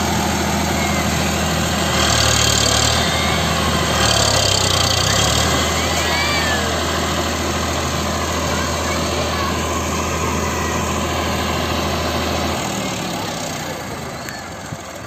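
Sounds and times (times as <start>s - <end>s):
tractor diesel engine revving: 0.0s - 15.0s.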